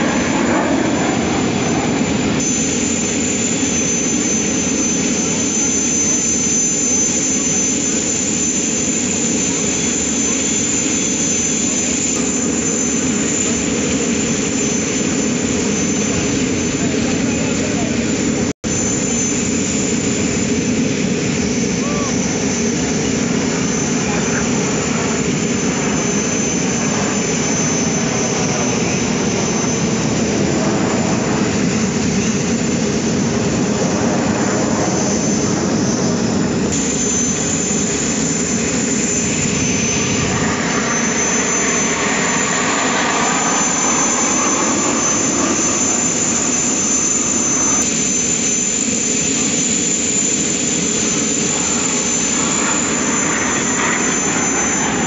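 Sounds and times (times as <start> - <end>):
jet engines flying overhead: 0.0 - 55.0.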